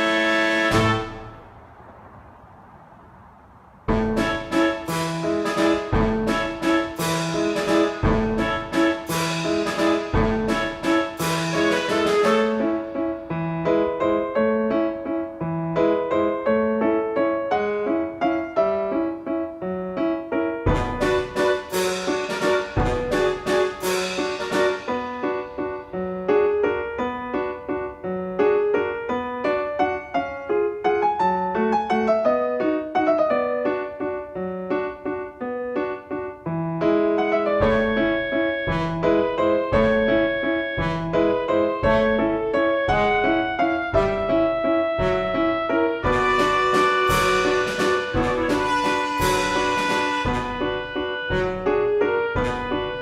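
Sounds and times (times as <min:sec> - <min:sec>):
light classical keyboard music: 0:00.0 - 0:02.2, 0:03.8 - 0:53.0.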